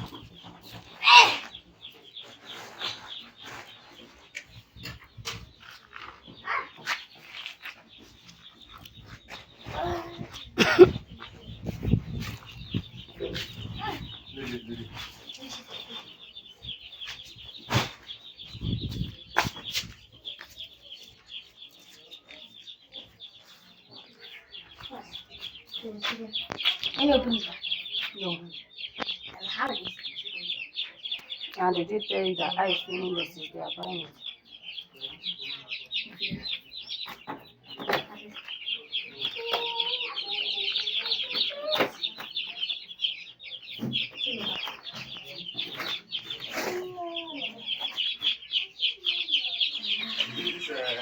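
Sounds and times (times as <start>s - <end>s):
chickens chirping: 0.0s - 51.0s.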